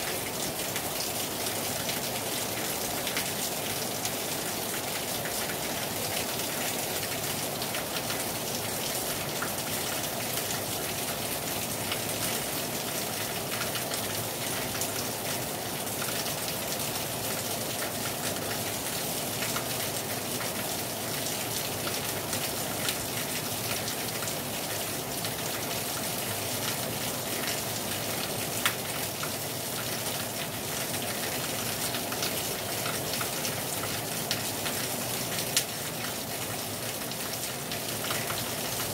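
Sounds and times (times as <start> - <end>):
raindrops ticking on surface: 0.0 - 38.9.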